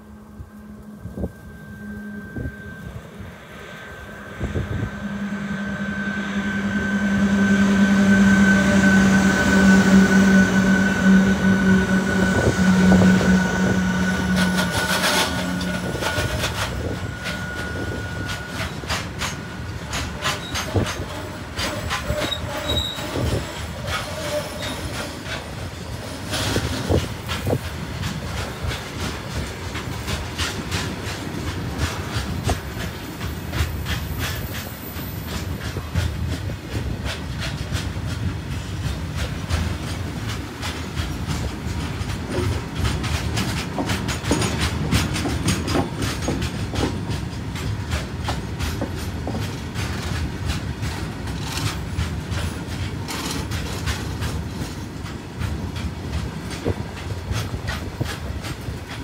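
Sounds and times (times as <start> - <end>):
freight train wheels rumbling: 0.0 - 59.0
wheels clacking over rail joints: 6.4 - 59.0.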